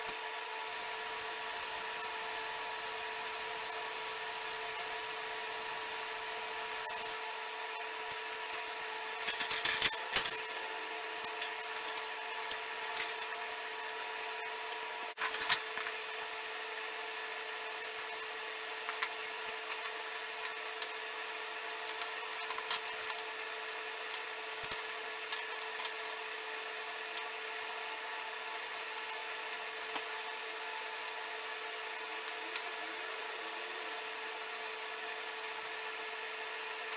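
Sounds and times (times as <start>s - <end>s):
steady hum: 0.0s - 36.9s.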